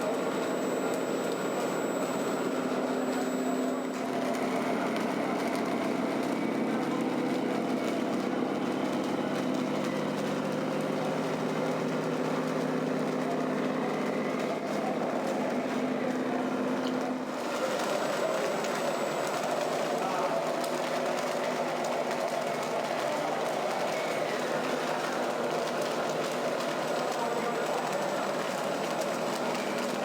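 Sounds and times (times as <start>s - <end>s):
faint motor whine: 0.0s - 30.0s.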